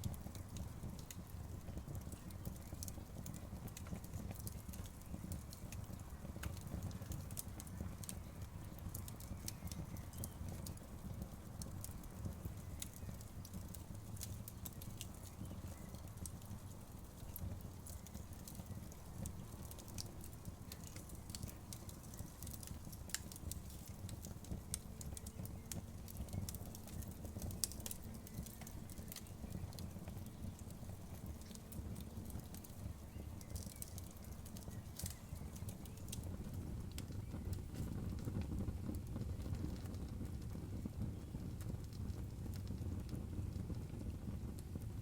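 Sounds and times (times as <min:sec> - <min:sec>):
burning wood crackling and popping: 0:00.0 - 0:45.0
campfire flames rumbling: 0:00.0 - 0:45.0.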